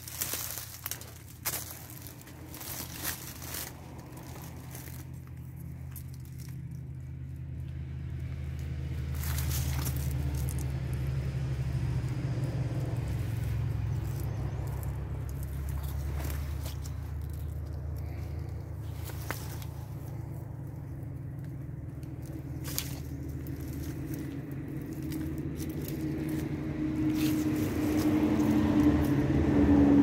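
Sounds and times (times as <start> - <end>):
branches rustling: 0.0 - 30.0
steady low drone: 0.0 - 30.0.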